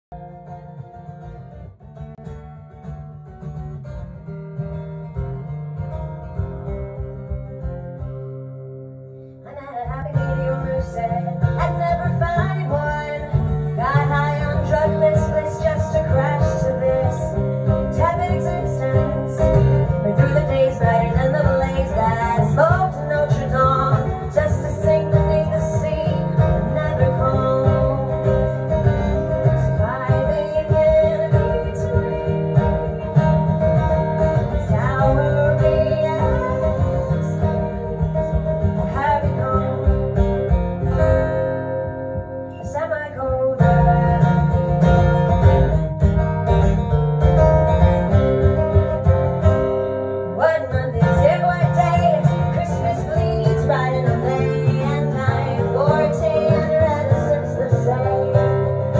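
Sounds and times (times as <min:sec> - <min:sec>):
strummed acoustic guitar: 0:00.1 - 0:58.9
woman singing: 0:09.4 - 0:46.6, 0:47.7 - 0:58.9.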